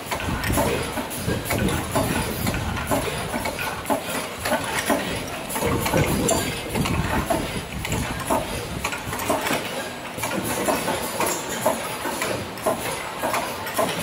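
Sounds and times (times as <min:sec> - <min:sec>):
packing machine mechanical din: 0:00.0 - 0:14.0.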